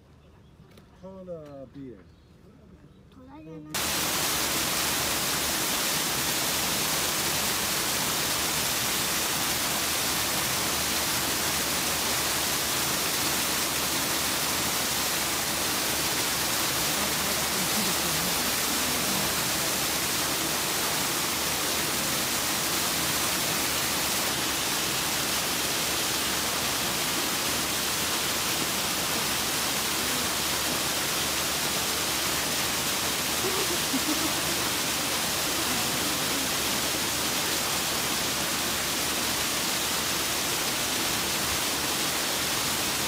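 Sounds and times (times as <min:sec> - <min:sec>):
water rushing: 0:03.8 - 0:43.0.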